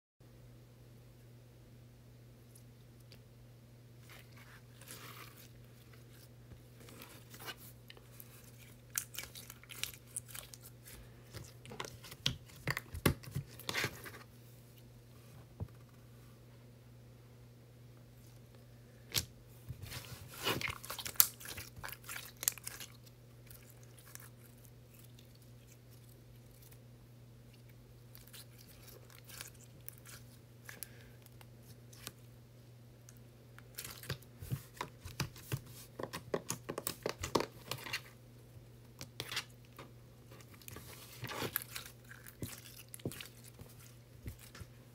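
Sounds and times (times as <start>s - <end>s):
faint steady hum: 0.2s - 44.9s.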